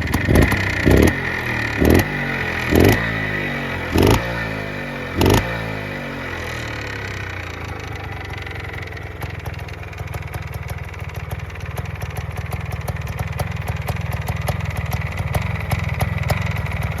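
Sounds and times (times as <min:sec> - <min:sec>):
two-stroke engine revving and idling: 0:00.0 - 0:17.0.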